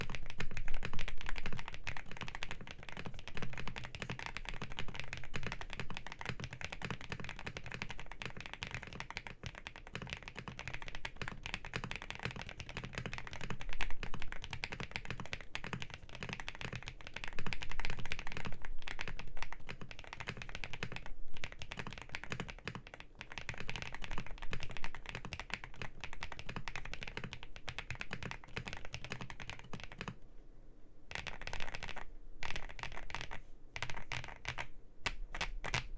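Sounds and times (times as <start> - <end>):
mechanical keyboard typing: 0.0 - 30.2, 31.1 - 35.9.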